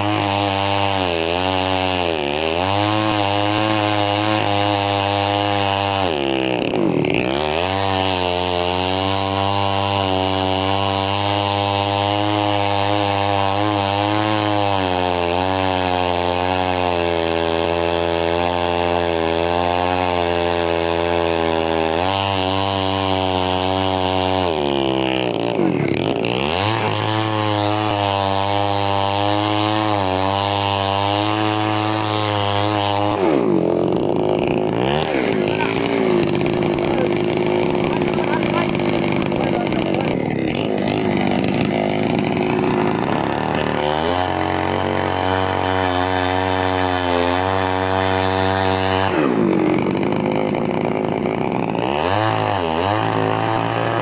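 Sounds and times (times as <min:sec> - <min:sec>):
chainsaw cutting: 0:00.0 - 0:54.0.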